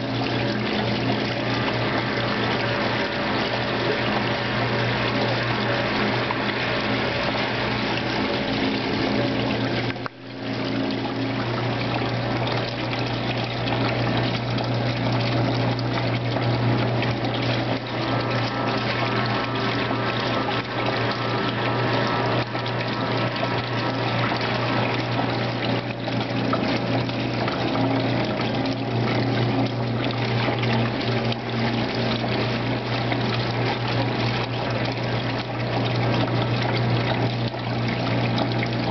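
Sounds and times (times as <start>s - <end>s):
washer motor hum: 0.0s - 38.9s
water sloshing and splashing: 0.0s - 38.9s.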